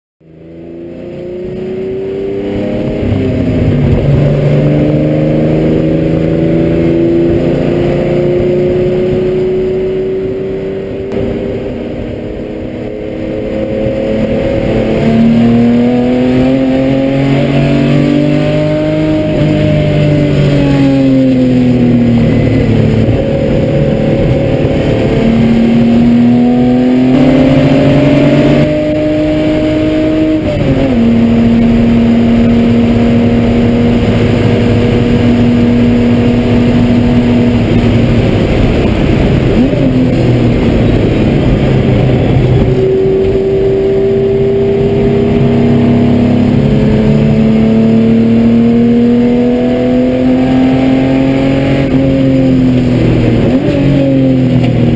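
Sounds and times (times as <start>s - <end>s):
racecar engine accelerating: 0.2s - 54.9s.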